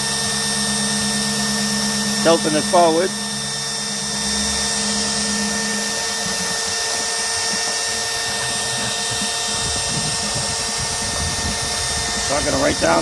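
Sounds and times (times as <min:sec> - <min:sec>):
cordless drill whining: 0:00.0 - 0:13.0.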